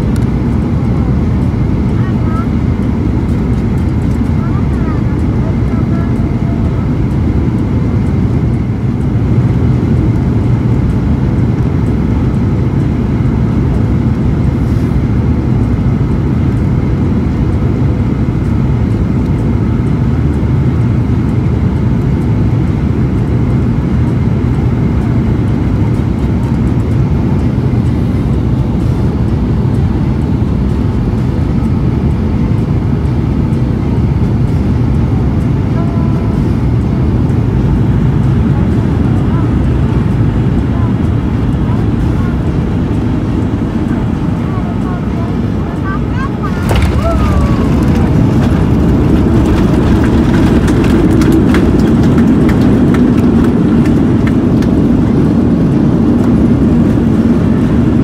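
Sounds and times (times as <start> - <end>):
jet engines and airflow rushing: 0.0 - 58.0.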